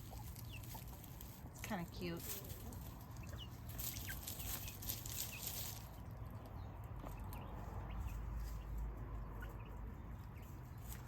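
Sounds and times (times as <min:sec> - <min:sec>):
chick peeping: 0:00.0 - 0:11.0
chickens scratching ground: 0:00.0 - 0:11.0.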